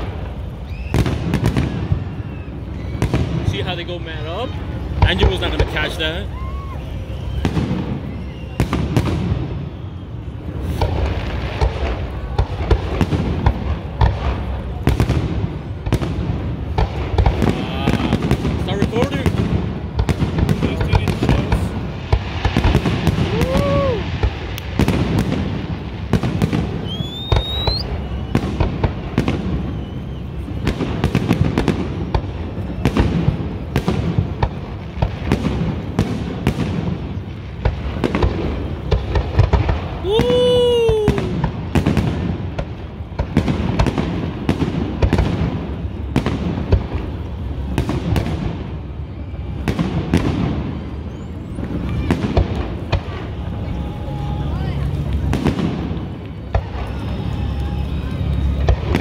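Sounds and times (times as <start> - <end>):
crowd voices: 0.0 - 59.0
fireworks bursting: 0.0 - 59.0.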